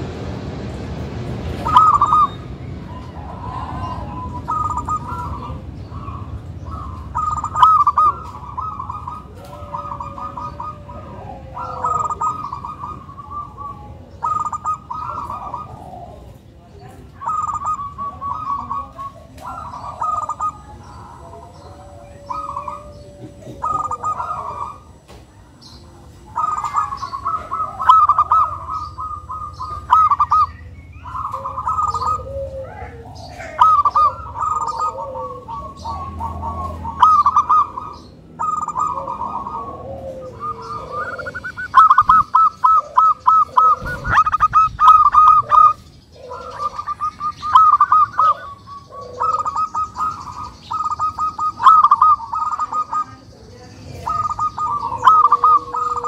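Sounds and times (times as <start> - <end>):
dove cooing: 1.4 - 56.0.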